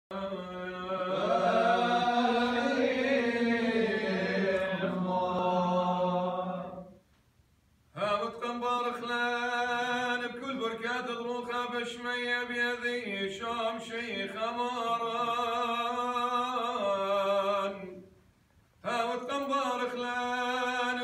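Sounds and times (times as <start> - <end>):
solo liturgical chant: 0.1 - 7.1, 7.9 - 18.2, 18.8 - 21.0.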